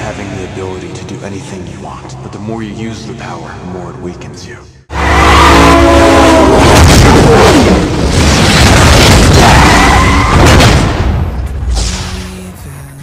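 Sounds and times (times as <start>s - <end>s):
trailer music: 0.0s - 13.0s.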